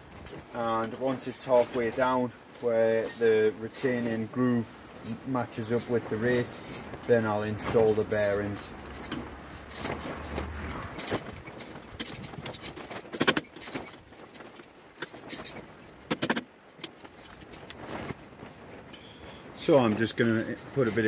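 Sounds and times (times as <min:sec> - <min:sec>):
metallic clicks and scrapes: 0:00.0 - 0:18.4.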